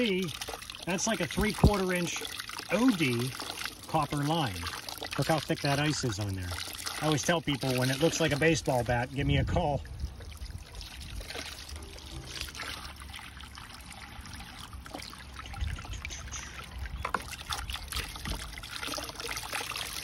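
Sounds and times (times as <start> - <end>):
hose water splashing on ice: 0.0 - 20.0.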